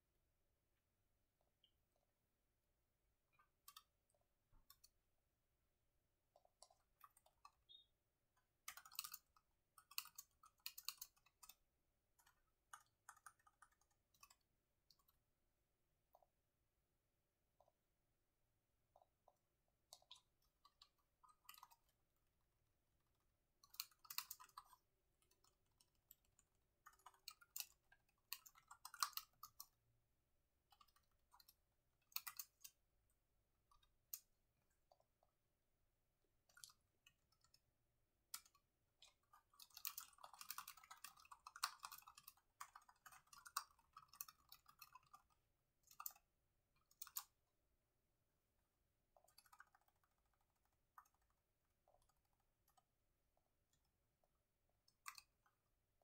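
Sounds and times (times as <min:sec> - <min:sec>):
faint laptop keyboard typing: 0:00.8 - 0:56.0.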